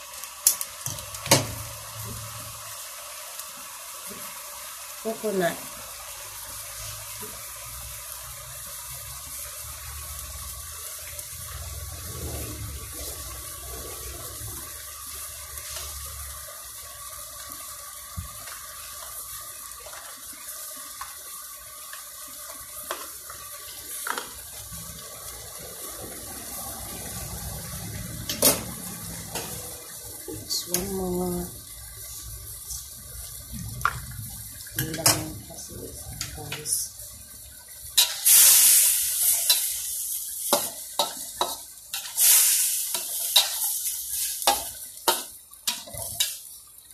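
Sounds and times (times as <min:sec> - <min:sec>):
food hissing in a wok: 0:00.0 - 0:34.8, 0:35.4 - 0:46.9.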